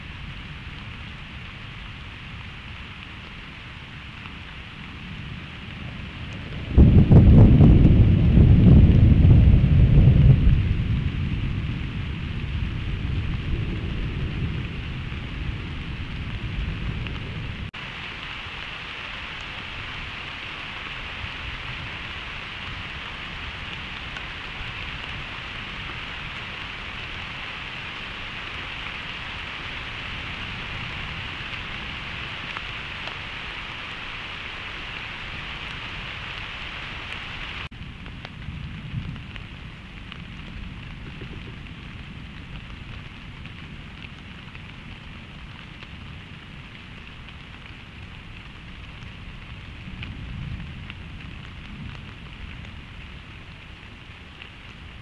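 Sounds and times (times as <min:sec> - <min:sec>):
rain hissing: 0:00.0 - 0:55.0
thunder rumbling: 0:00.0 - 0:55.0.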